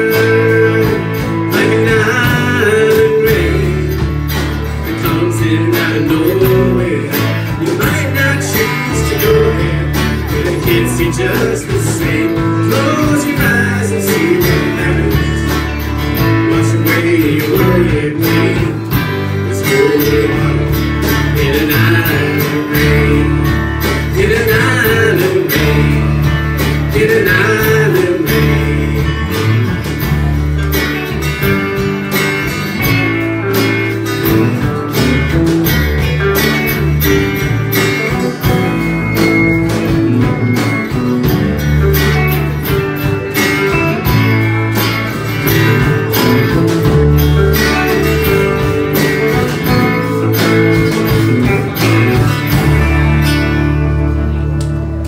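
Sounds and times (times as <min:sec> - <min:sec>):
country band playing: 0:00.0 - 0:55.0.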